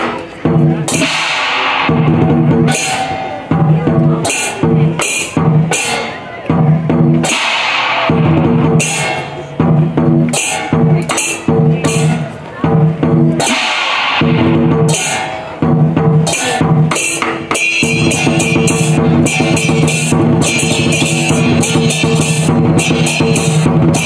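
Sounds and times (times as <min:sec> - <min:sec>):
large drum beating: 0:00.0 - 0:24.0
hand cymbals crashing: 0:00.5 - 0:12.4, 0:13.4 - 0:24.0.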